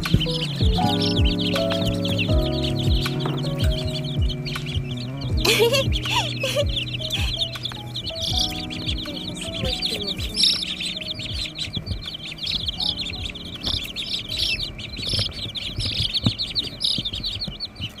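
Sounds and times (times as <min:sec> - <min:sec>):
baby chicks peeping: 0:00.0 - 0:18.0.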